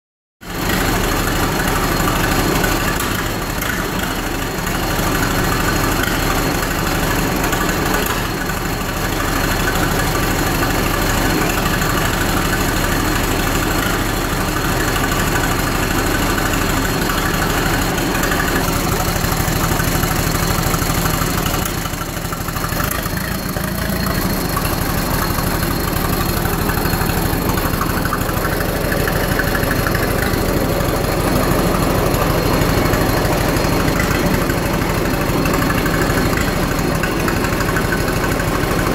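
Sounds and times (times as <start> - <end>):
tractor engine idling: 0.4 - 38.9.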